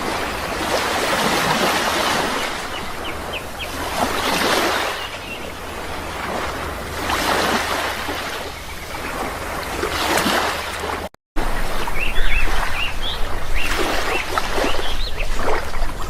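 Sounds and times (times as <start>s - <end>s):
birds chirping: 0.0s - 6.9s, 7.8s - 9.9s, 11.6s - 16.0s
sea waves washing: 0.0s - 16.0s.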